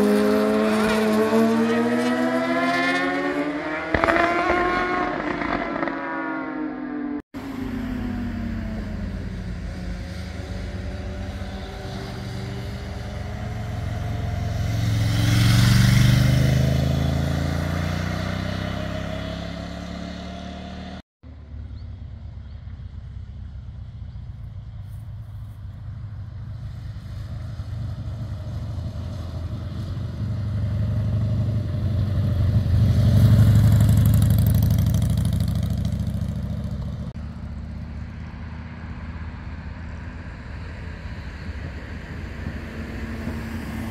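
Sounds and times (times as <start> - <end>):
motorcycle passing by: 0.0 - 43.9.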